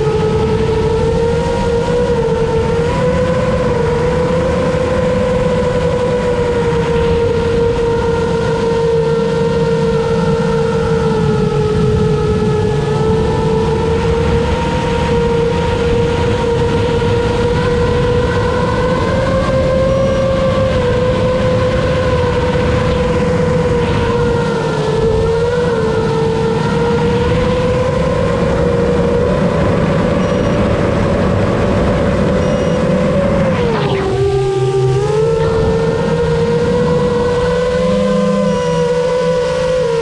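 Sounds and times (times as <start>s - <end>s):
drone motors whining: 0.0s - 40.0s
heavy wind rush: 0.0s - 40.0s.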